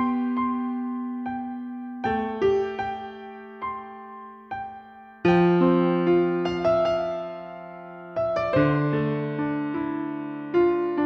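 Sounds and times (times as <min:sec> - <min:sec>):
piano playing slow chords: 0:00.0 - 0:11.0.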